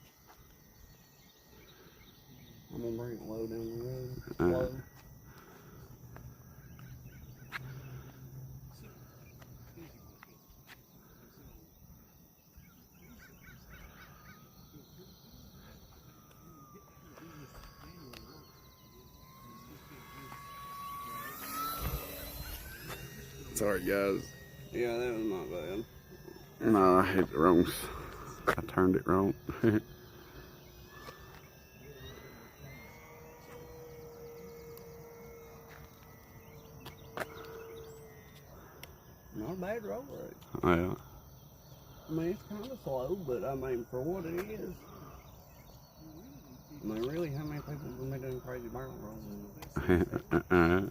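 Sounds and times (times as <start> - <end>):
bird chirps: 0.0 - 50.9
faint insect buzz: 0.0 - 50.9
model plane electric motor whine: 0.0 - 50.9.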